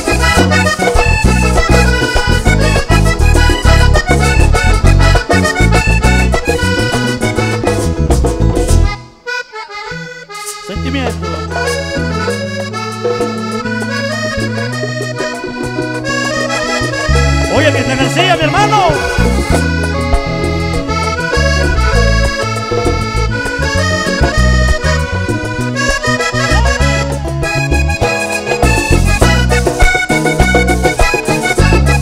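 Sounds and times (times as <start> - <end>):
band playing instrumental music: 0.0 - 32.0
button accordion: 0.0 - 32.0.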